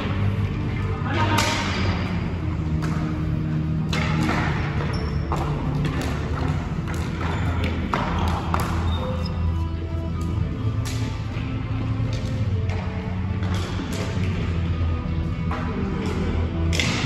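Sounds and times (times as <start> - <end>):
hockey sticks and puck knocks: 1.1 - 9.2, 10.2 - 14.7, 15.4 - 17.0.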